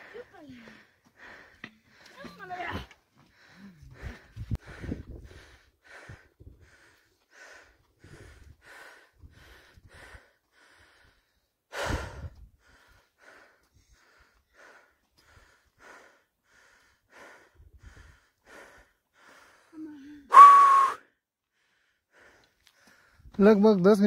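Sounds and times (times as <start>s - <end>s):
person breathing hard: 0.0s - 2.3s, 3.2s - 20.4s, 21.4s - 23.4s.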